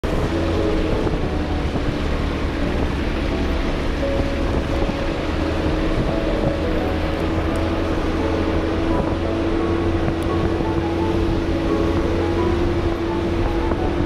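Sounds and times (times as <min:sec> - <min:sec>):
car engine hum: 0:00.0 - 0:14.0
road rumble: 0:00.0 - 0:14.0
wind buffeting microphone: 0:00.0 - 0:14.0.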